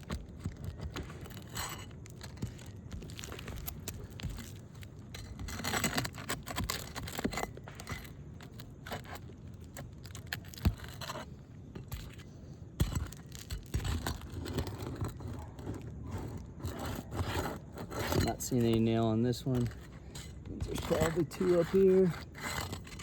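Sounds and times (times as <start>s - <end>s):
pry tool scraping shingles: 0.0s - 23.0s.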